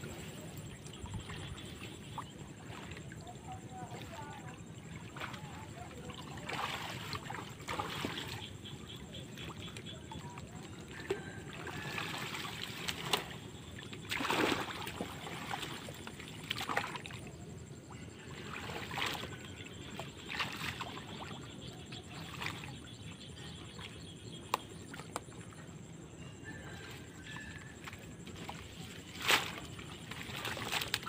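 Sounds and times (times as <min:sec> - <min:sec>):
water splashing from wading: 0:00.0 - 0:31.0.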